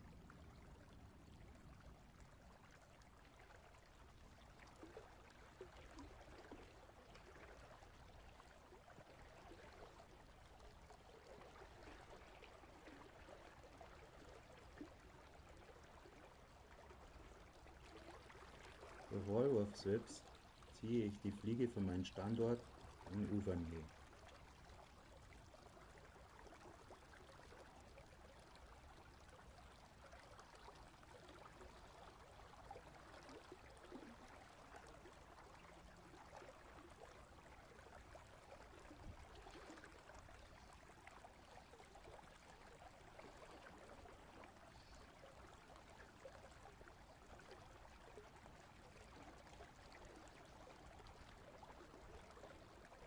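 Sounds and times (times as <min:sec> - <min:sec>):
faint flowing river water: 0:00.0 - 0:53.0.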